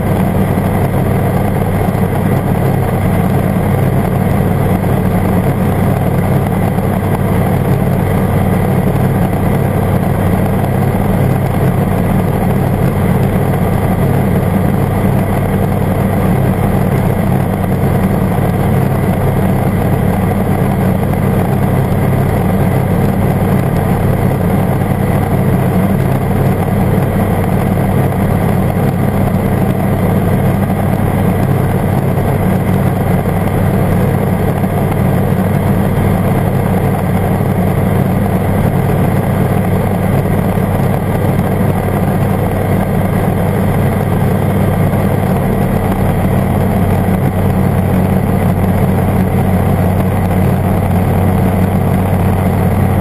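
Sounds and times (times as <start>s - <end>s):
ultralight engine and propeller drone: 0.0s - 53.0s.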